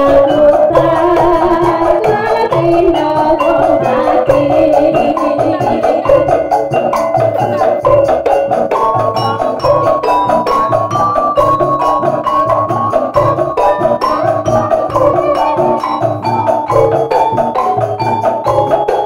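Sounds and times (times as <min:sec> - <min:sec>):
bamboo and wooden percussion clacking: 0:00.0 - 0:19.0
low drum beats: 0:00.0 - 0:19.0
melody of held notes: 0:00.0 - 0:19.0.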